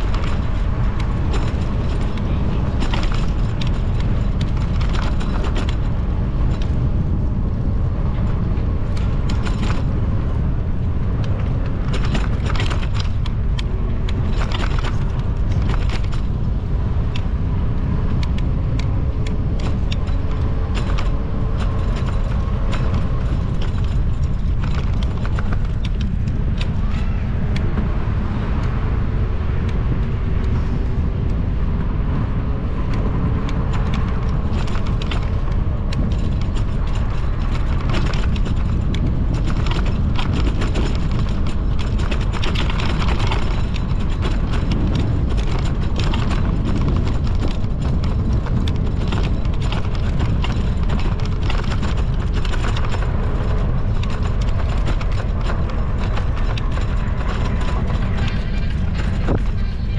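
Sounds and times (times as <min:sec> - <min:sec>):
bike rattling and clicking: 0:00.0 - 0:59.9
wind and road rumble: 0:00.0 - 0:59.9.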